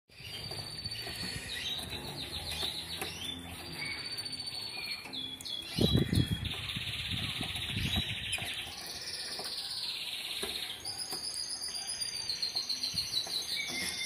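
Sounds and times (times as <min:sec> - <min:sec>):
canary singing trills: 0:00.1 - 0:14.0.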